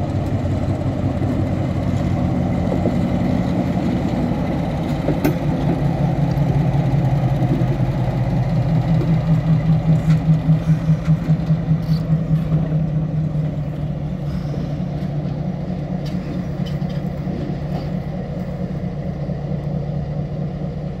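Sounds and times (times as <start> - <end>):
diesel locomotive rolling past: 0.0 - 21.0.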